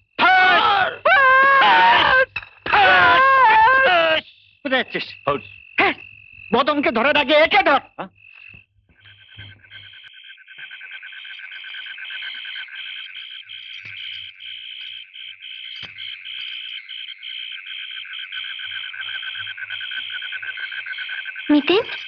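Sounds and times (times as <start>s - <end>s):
insects trilling: 0.0s - 22.0s
higher pulsing insect chirps: 1.7s - 22.0s.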